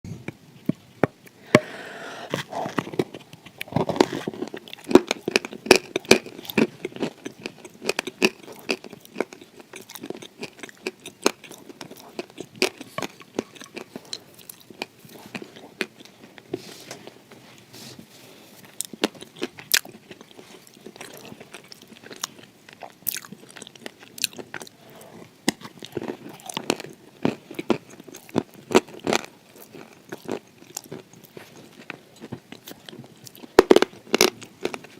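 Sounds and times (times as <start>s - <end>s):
chewing crunchy clay: 2.4s - 16.6s, 18.6s - 34.9s.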